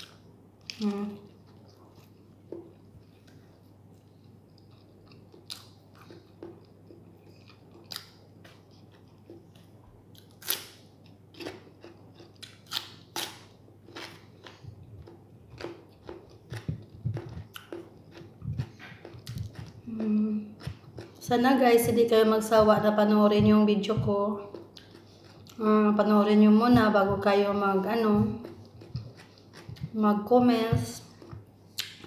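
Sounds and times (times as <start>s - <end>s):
person chewing: 0.0s - 21.4s, 24.0s - 25.7s, 28.0s - 30.0s, 31.0s - 32.0s.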